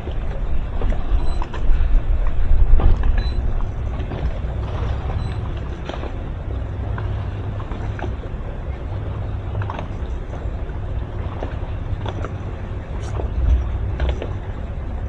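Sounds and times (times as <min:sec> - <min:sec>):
boat engine rumble: 0:00.0 - 0:15.0
water: 0:00.0 - 0:15.0.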